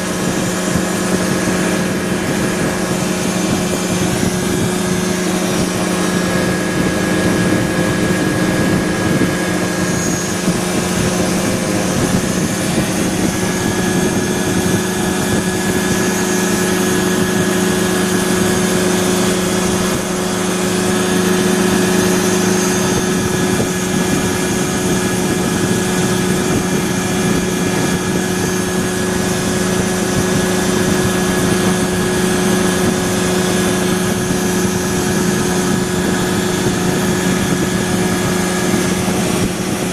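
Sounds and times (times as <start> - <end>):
two-stroke engine and propeller running: 0.0 - 39.9.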